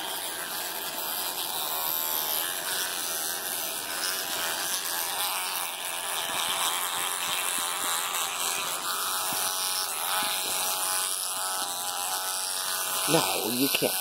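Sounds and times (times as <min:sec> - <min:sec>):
electric toothbrush buzzing: 0:00.0 - 0:14.0.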